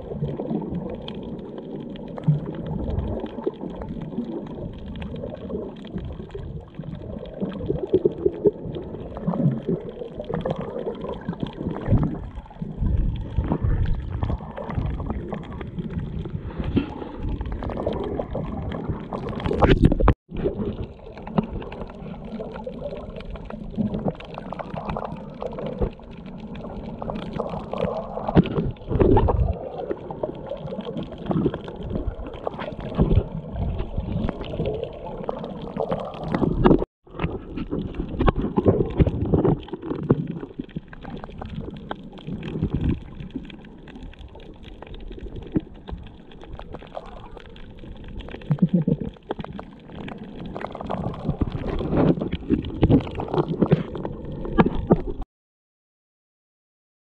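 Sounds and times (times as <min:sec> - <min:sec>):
underwater water sloshing and gurgling: 0:00.0 - 0:55.2.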